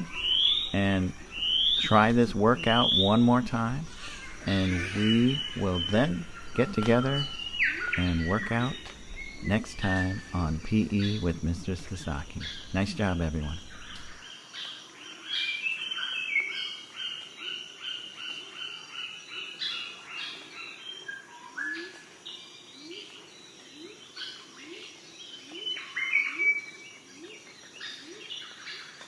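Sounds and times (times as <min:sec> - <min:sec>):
birds calling and chirping: 0:00.0 - 0:29.0.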